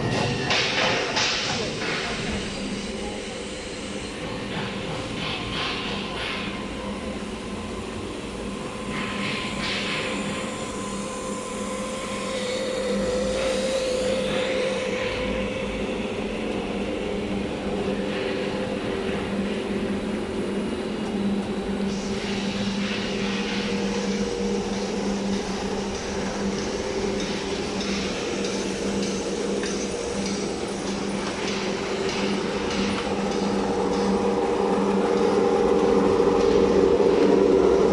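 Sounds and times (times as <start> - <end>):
machine motors humming: 0.0 - 37.9.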